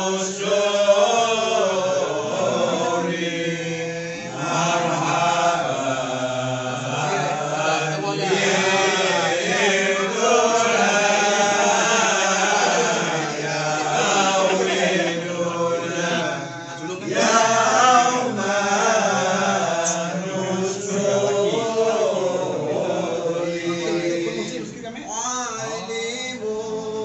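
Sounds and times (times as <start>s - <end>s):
group chanting in unison: 0.0s - 24.7s.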